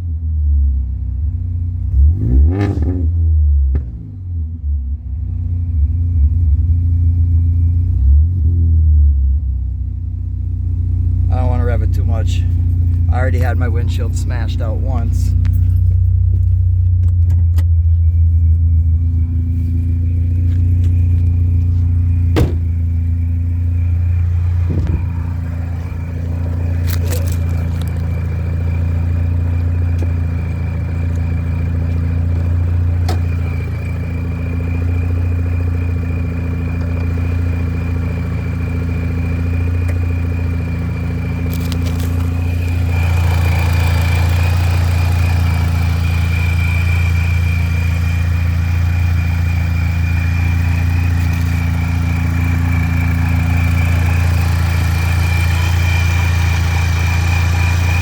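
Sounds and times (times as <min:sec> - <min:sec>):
supercharged car engine idling: 0:03.2 - 0:58.0.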